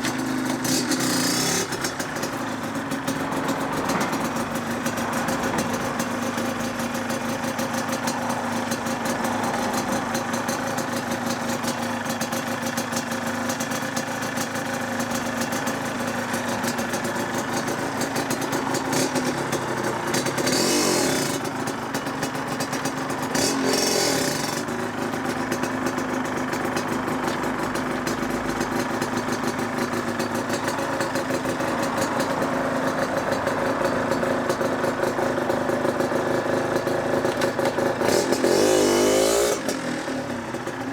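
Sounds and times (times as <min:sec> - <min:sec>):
two-stroke engine idling: 0:00.0 - 0:40.9.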